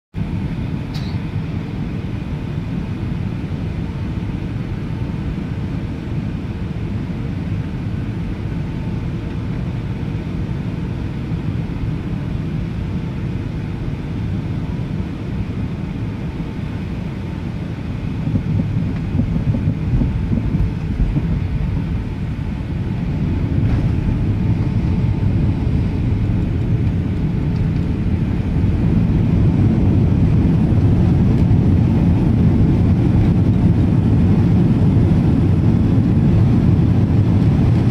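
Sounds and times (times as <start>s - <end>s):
faint engine whine: 0.2s - 37.9s
jet engines rumbling in cabin: 0.2s - 37.9s.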